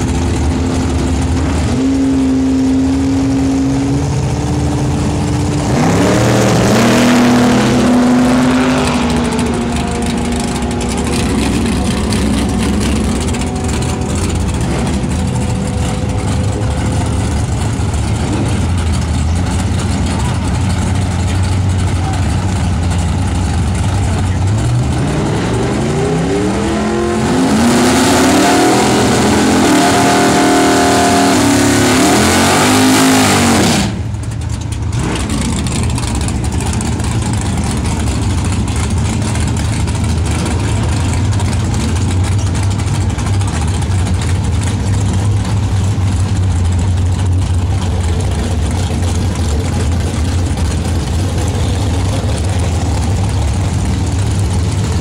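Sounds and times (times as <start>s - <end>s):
drag car engine idling and revving: 0.0s - 55.0s
tyres spinning in burnout: 4.6s - 55.0s.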